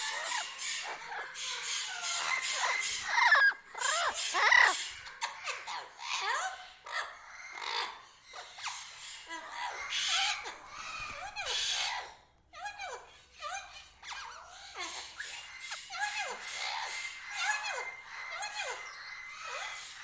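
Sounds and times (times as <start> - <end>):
animal squeals and yelps: 0.0 - 20.0.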